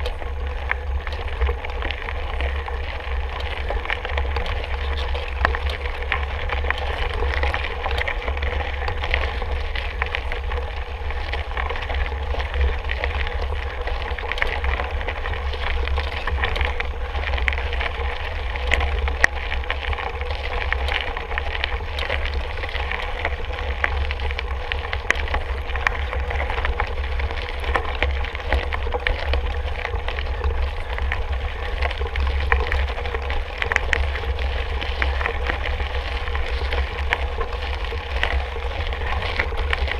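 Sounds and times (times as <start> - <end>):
bike tyres rolling on dirt: 0.0 - 39.9
small clicks and rattles: 0.0 - 39.9.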